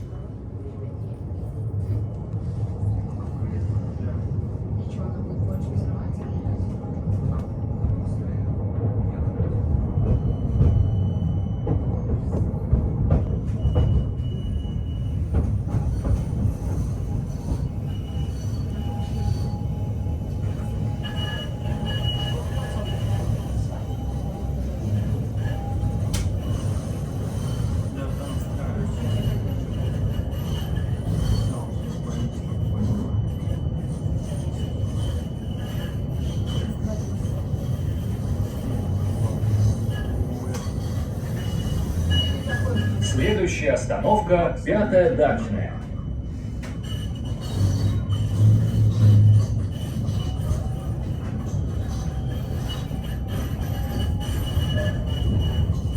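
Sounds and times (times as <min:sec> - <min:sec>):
tram rumbling: 0:00.0 - 0:55.9.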